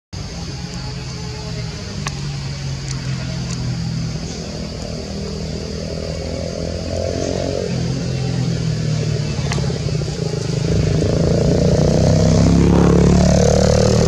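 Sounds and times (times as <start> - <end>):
vehicle engine running: 0.2 - 14.0.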